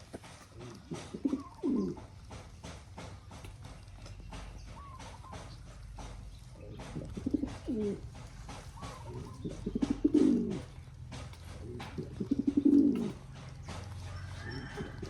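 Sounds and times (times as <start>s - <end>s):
pigeon cooing: 0.2s - 2.2s, 4.6s - 15.0s.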